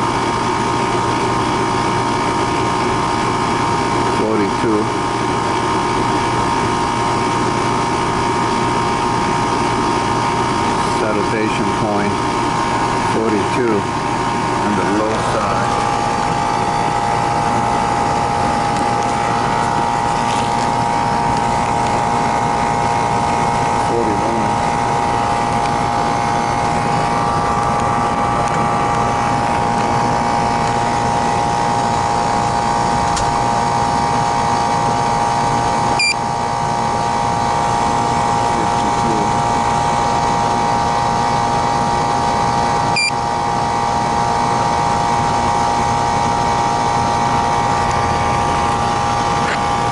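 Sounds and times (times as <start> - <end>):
air conditioner drone with whine: 0.0 - 49.9.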